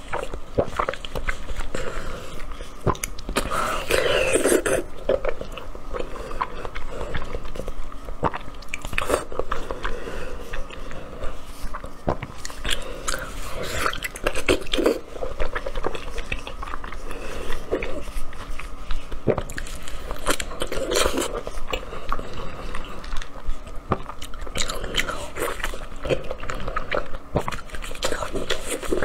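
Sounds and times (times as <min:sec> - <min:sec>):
wet chewing and mouth clicks: 0:00.0 - 0:29.0.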